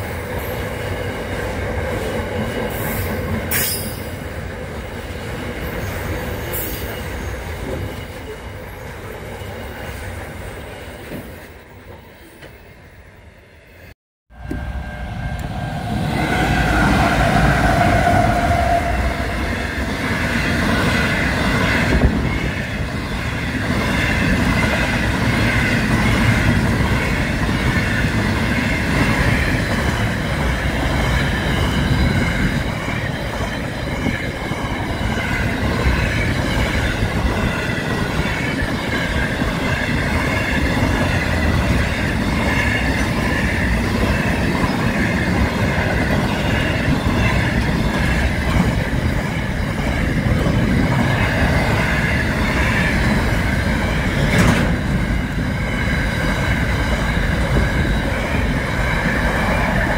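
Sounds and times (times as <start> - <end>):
freight train rumbling: 0.0 - 13.2, 14.3 - 59.9
passing train: 0.0 - 59.9.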